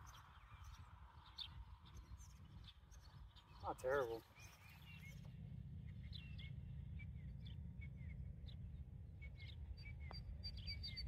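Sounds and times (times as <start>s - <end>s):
songbirds chirping: 0.0s - 11.0s
wind rumble on microphone: 0.0s - 11.0s.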